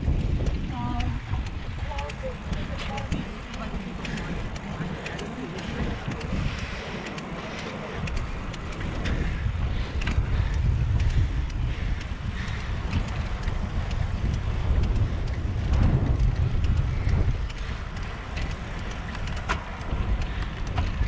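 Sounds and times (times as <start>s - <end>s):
wheels rolling on concrete: 0.0s - 21.0s
wind buffeting microphone: 0.0s - 21.0s.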